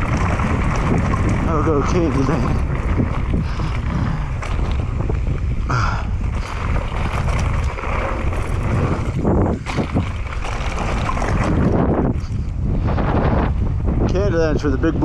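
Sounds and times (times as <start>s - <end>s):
bike knocking over bumps: 0.0s - 12.2s
bike tyre rumble: 0.0s - 15.0s
wind buffeting microphone: 0.0s - 15.0s.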